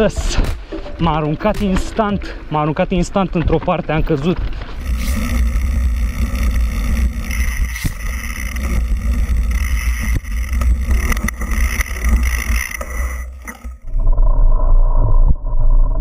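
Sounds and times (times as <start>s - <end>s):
bike clacking and rattling: 0.0s - 13.9s
bike tyre rumble: 0.6s - 16.0s.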